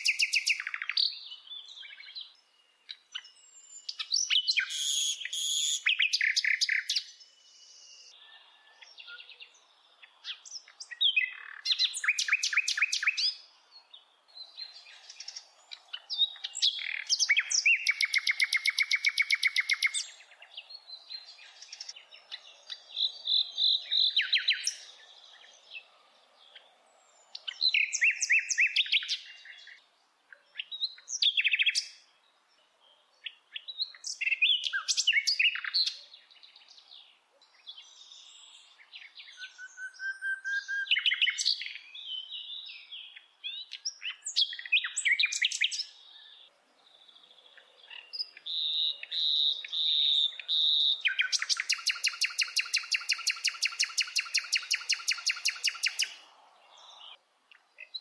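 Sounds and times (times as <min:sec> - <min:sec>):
songbird trilling and chirping: 0:00.0 - 0:58.0.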